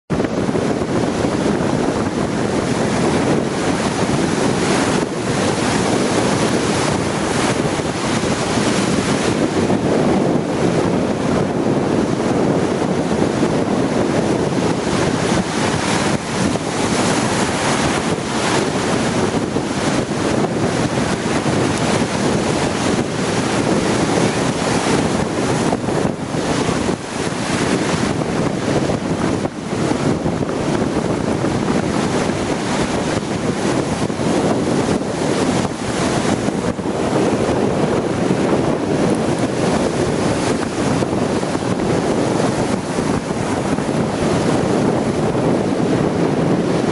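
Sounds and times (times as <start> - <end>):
sea surf breaking: 0.1 - 46.9
wind buffeting microphone: 0.1 - 46.9.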